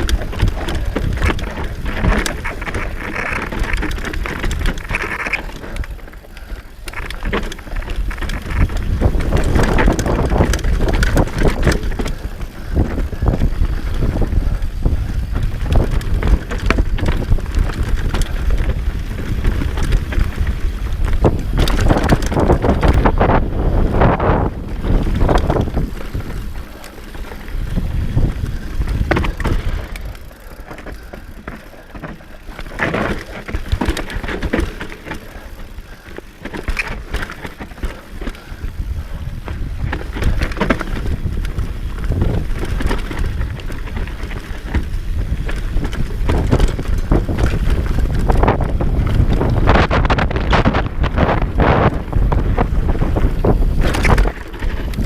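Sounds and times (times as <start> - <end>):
constant ride rumble: 0.0 - 55.0
knocks and rattles from riding: 0.0 - 55.0
wind buffeting microphone: 0.0 - 55.0.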